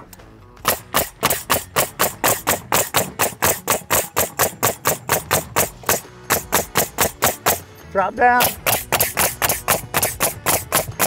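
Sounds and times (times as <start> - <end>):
nail gun firing: 0.6 - 7.7, 8.4 - 11.0.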